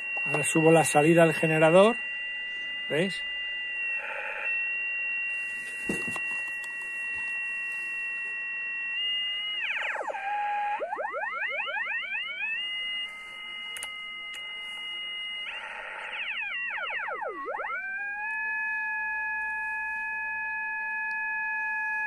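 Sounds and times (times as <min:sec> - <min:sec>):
radio beat note whistle gliding: 0:00.0 - 0:18.2.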